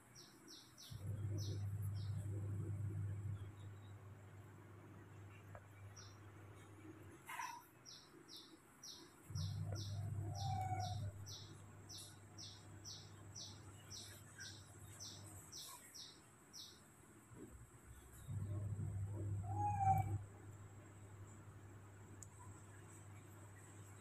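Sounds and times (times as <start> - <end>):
low hum: 0.4 - 7.2, 9.3 - 15.4, 17.3 - 24.0.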